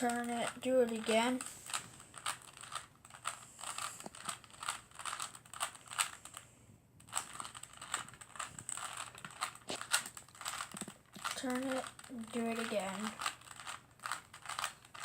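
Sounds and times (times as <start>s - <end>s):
puzzle cube clicking and rattling: 0.0s - 6.4s, 7.0s - 15.0s.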